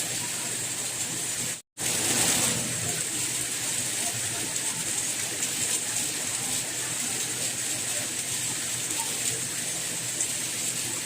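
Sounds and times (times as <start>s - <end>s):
raindrops pattering: 0.0s - 11.0s
soft rain hiss: 0.0s - 11.0s.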